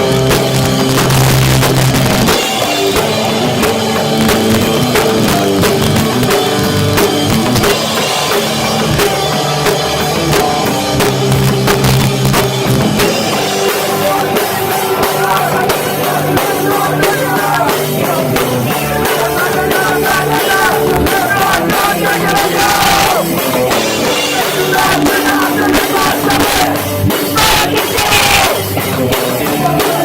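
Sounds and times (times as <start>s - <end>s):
drum kit pounding: 0.0s - 30.0s
live rock band playing: 0.0s - 30.0s.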